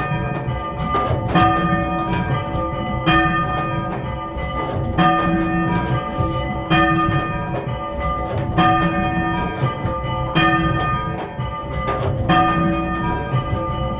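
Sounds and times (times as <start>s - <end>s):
church bells change ringing: 0.0s - 13.9s.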